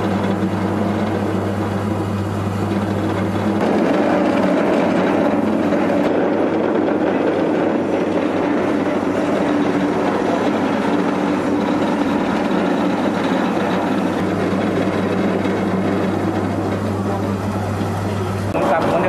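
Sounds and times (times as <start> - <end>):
rice mill whirring: 0.0 - 19.0
steady hum: 0.0 - 19.0.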